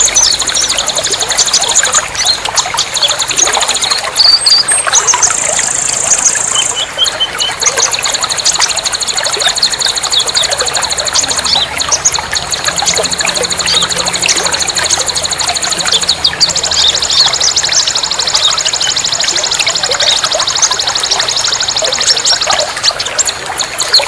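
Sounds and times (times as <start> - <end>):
rapid high bird trill: 0.0 - 24.0
songbirds chirping: 0.0 - 24.0.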